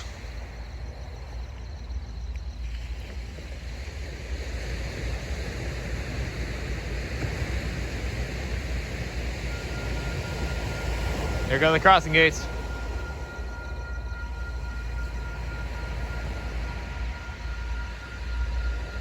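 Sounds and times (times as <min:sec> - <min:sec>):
freight train rumble: 0:00.0 - 0:19.0
wind: 0:00.0 - 0:19.0.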